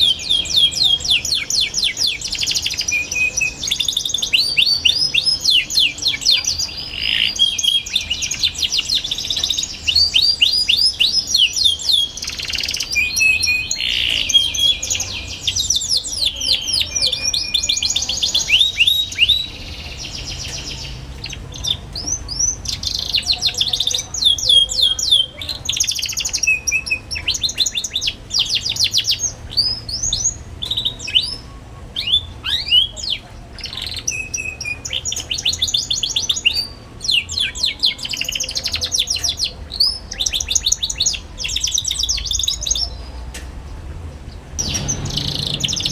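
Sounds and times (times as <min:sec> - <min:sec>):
canary singing trills and chirps: 0:00.0 - 0:43.2.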